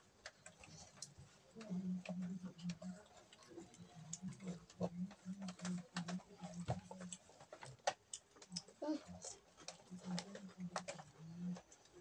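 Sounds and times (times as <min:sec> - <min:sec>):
children chewing crunchy snacks: 0:00.2 - 0:12.0.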